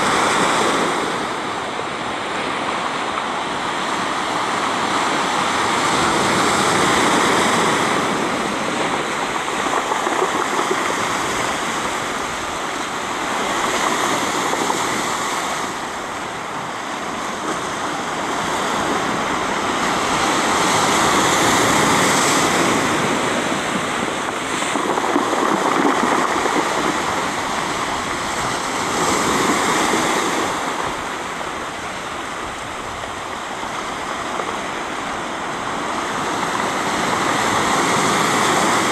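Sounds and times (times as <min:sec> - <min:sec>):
surf washing over pebble beach: 0:00.0 - 0:38.9.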